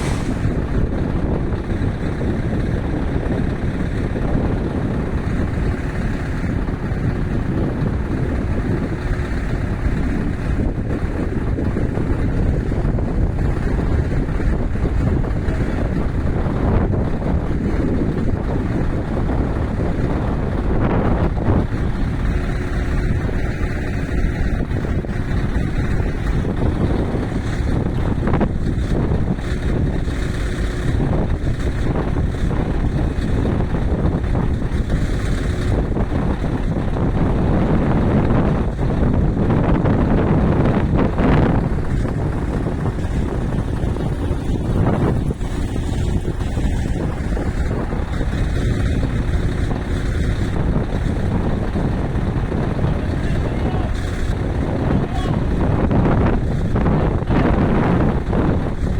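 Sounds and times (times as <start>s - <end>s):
diesel truck engine running: 0.0s - 58.9s
wind buffeting microphone: 0.0s - 58.9s.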